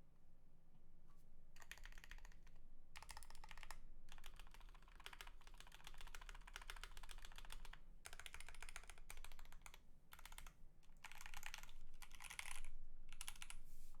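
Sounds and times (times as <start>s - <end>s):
mechanical keyboard typing: 1.6s - 13.6s.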